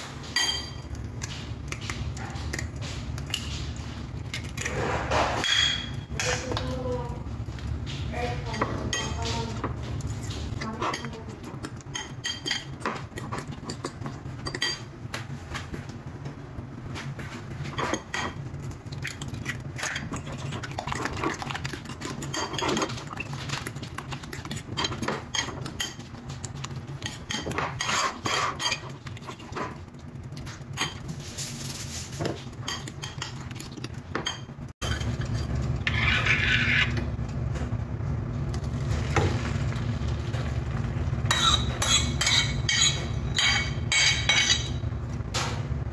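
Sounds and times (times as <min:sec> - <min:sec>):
background hum: 0:00.0 - 0:45.9.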